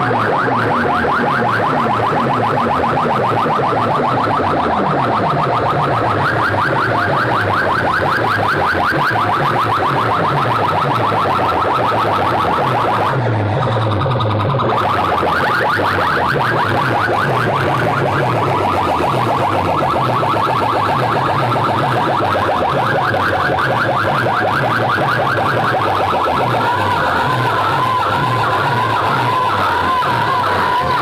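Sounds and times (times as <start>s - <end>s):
warbling electronic tone: 0.0s - 31.0s.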